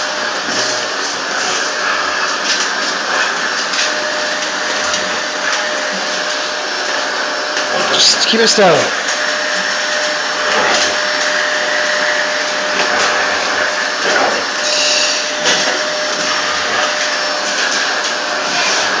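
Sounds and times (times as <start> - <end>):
vacuum cleaner whine: 0.0 - 19.0.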